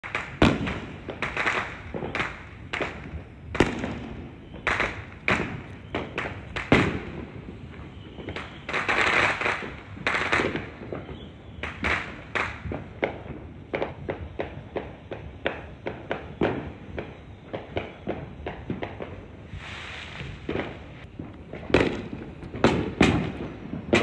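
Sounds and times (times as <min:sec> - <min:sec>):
distant fireworks bangs: 0:00.0 - 0:24.0
fireworks crackling: 0:00.0 - 0:24.0.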